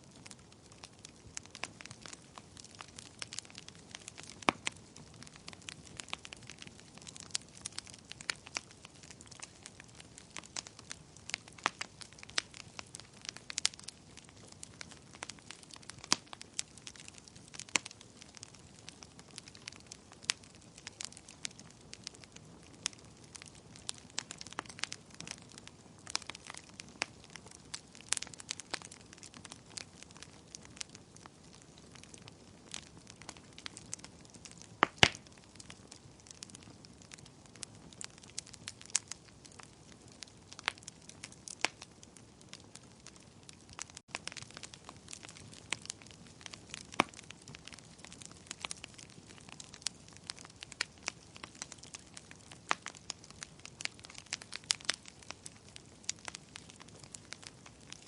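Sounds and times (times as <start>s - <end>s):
logs crackling and popping: 0.0s - 58.0s
soft steady fire hiss: 0.0s - 58.0s.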